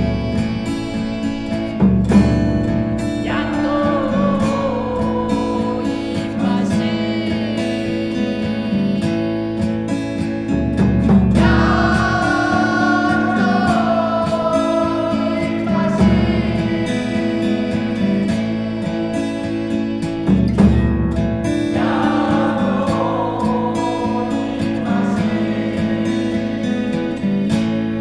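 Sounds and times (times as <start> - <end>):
sliding wavering lead melody: 0.0 - 27.4
strummed acoustic strings: 0.0 - 28.0.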